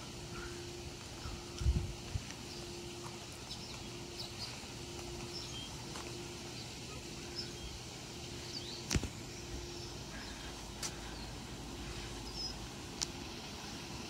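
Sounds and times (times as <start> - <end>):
small birds chirping: 0.0 - 14.0
steady outdoor hiss: 0.0 - 14.0.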